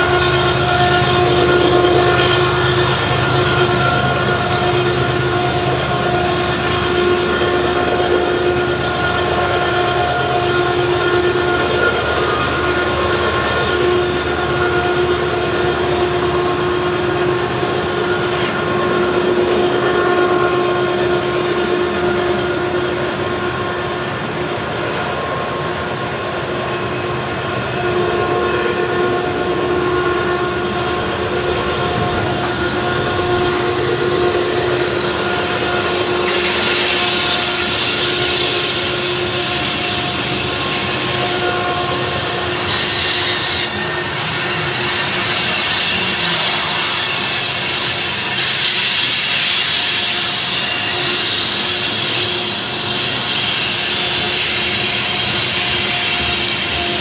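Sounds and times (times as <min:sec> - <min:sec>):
rumble of rolling rail cars: 0:00.0 - 0:57.0
train wheels squealing on rail: 0:00.0 - 0:57.0
high hissing squeal: 0:08.6 - 0:57.0.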